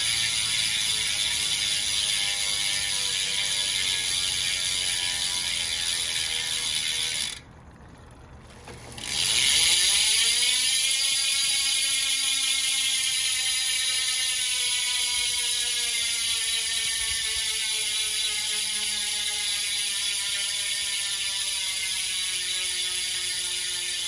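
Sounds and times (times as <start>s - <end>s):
bicycle freewheel ratchet buzz: 0.0s - 7.6s, 8.7s - 24.0s.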